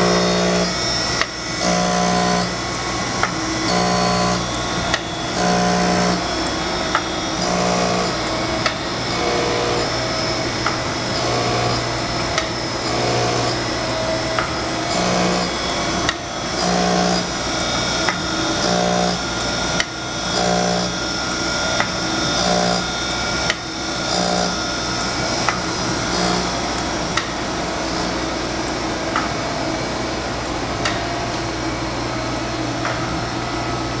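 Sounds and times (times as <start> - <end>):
grinder motor hum: 0.0 - 34.0.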